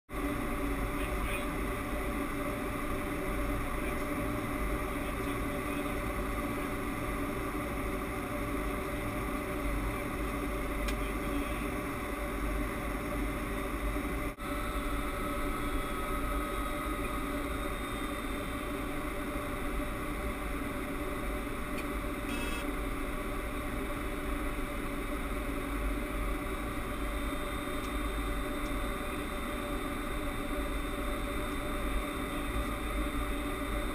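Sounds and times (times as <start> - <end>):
engine hum with whining tones: 0.1 - 33.9.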